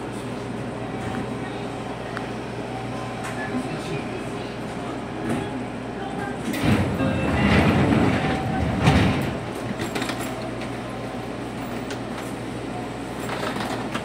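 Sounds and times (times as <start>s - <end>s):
stationary train humming: 0.0s - 14.0s.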